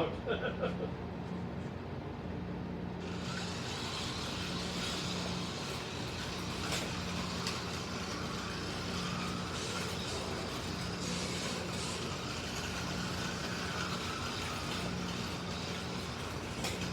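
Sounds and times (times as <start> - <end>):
slot car motors whirring: 2.8 - 16.9.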